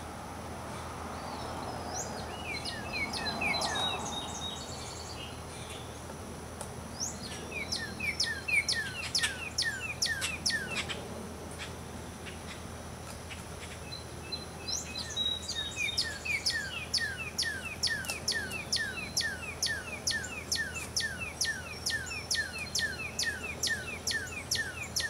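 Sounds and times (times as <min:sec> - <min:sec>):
outdoor background hiss: 0:00.0 - 0:25.0
songbird singing: 0:00.7 - 0:25.0.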